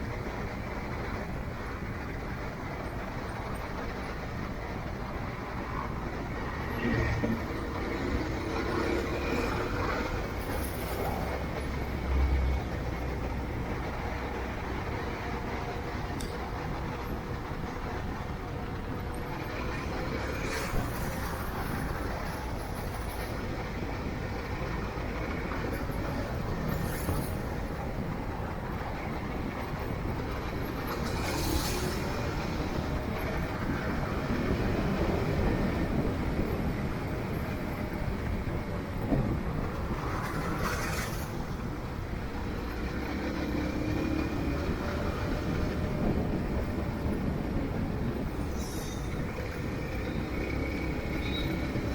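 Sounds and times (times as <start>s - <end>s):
wind noise: 0.0s - 51.9s.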